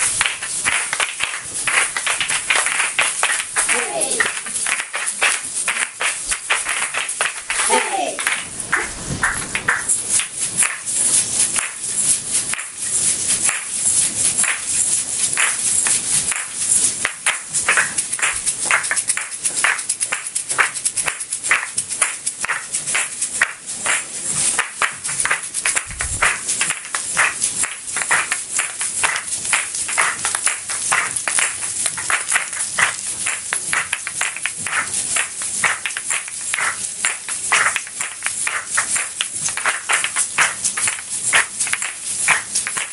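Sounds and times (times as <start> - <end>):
seeds rattling inside shells: 0.0 - 8.4, 9.2 - 42.9.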